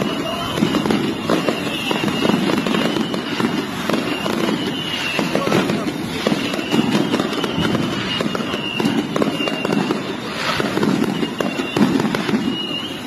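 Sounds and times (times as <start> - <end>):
firecrackers crackling: 0.0 - 13.0.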